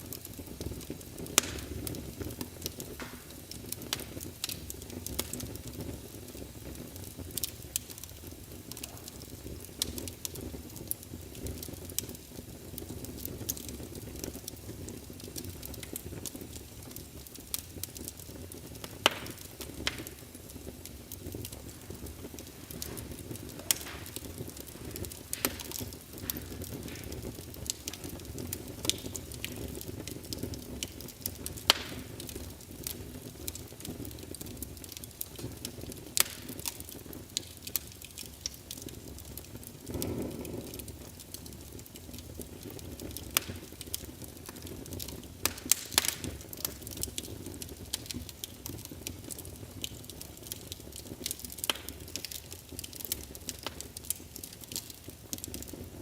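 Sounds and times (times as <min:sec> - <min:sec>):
rumble of flames: 0:00.0 - 0:56.0
wood fire crackling: 0:00.0 - 0:56.0.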